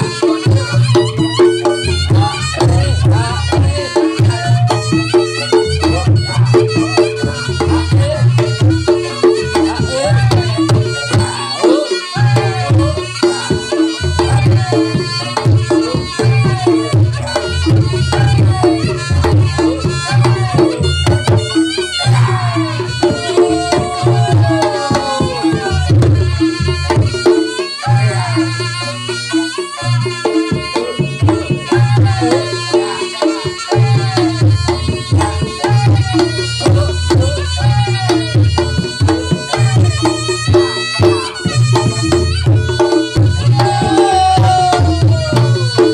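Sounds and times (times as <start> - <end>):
drum strokes: 0.0 - 45.9
wavering reed shawm melody: 0.0 - 45.9.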